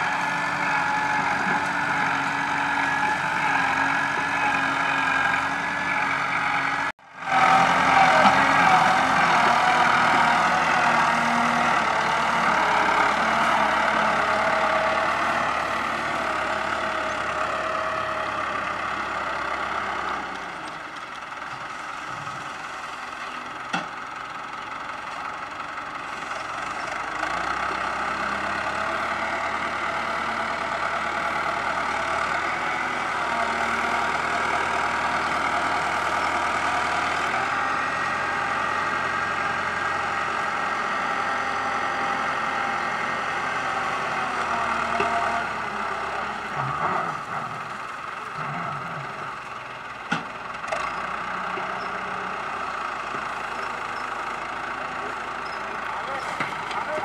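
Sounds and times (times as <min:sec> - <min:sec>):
loader engine running: 0:00.0 - 0:57.0.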